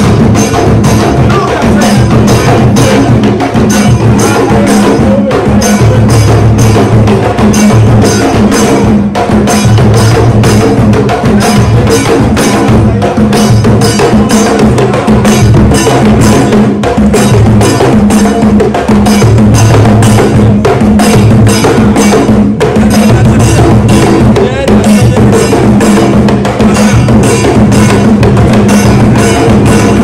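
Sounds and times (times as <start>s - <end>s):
drums: 0.0s - 30.0s
wood-block strikes: 0.0s - 30.0s.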